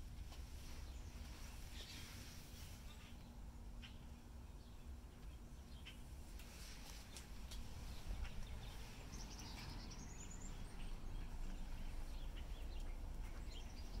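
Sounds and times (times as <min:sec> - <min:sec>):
birds chirping: 0:00.3 - 0:14.0.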